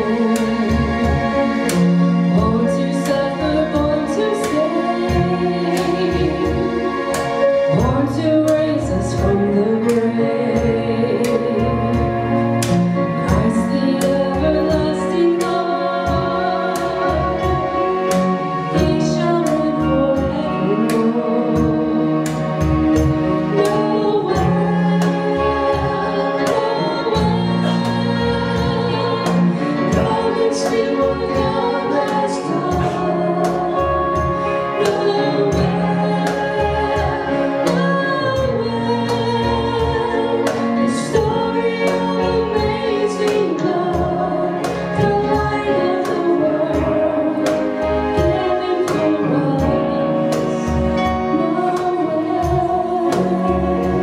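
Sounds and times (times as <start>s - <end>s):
keyboard: 0.0s - 54.0s
people singing: 2.4s - 54.0s.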